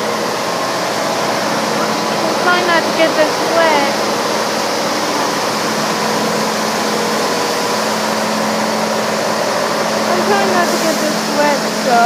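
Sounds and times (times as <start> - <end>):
machine hum: 0.0 - 12.0
high-pressure water spray hissing: 0.1 - 12.0.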